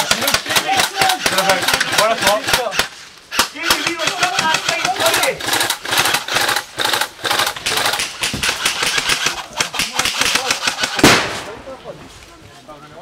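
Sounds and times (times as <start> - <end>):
airsoft guns firing: 0.0 - 11.8
loud sharp crack: 0.0 - 11.8.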